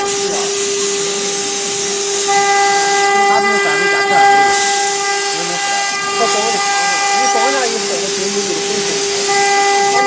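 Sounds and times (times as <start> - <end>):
cutter hissing through wood: 0.0 - 10.0
router spindle high-pitched whine: 0.0 - 10.0.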